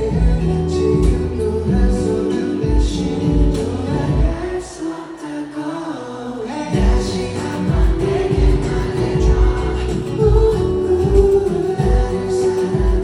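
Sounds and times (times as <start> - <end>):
pop backing track with bass beat: 0.0 - 5.4, 6.5 - 13.0
person singing: 0.0 - 13.0.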